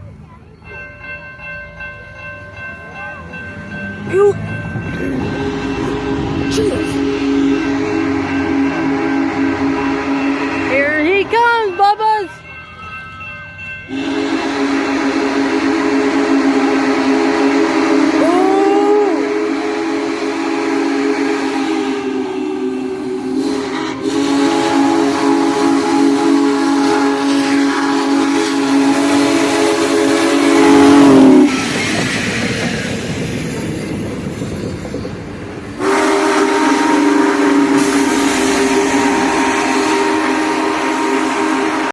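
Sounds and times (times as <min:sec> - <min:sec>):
train rumbling and hissing past: 0:00.0 - 0:41.9
steam locomotive chime whistle: 0:00.6 - 0:32.1, 0:35.7 - 0:41.9.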